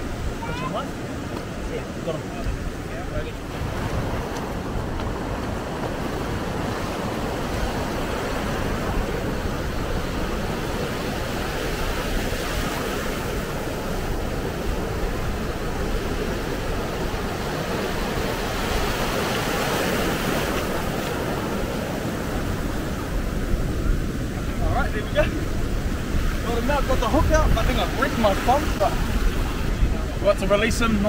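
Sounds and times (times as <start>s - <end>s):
surf breaking on a beach: 0.0s - 31.0s.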